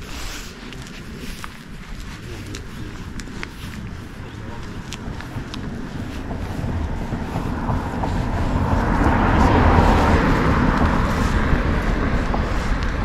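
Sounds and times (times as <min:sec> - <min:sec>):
vehicle passing by: 0:01.3 - 0:13.0.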